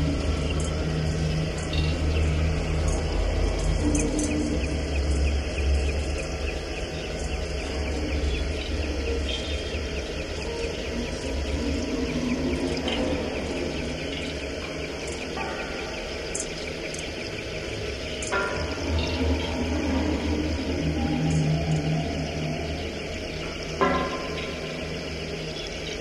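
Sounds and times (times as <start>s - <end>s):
deep synthesizer drone: 0.0s - 26.0s.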